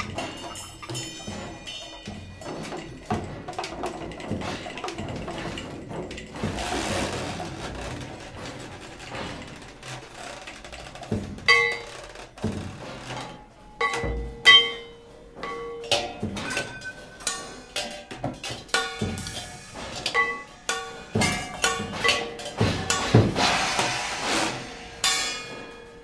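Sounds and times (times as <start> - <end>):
drums and percussion strikes: 0.0 - 13.2, 13.8 - 26.0.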